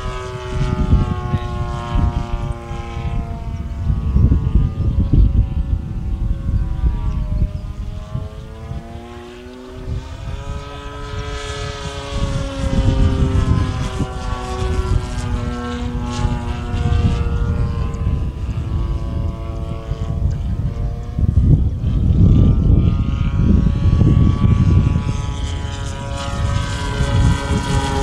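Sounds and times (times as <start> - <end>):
model airplane engine droning: 0.0 - 28.0.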